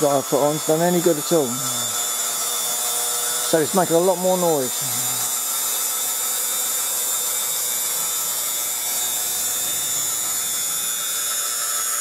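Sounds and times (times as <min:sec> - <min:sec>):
steam turbine whining: 0:00.0 - 0:12.0.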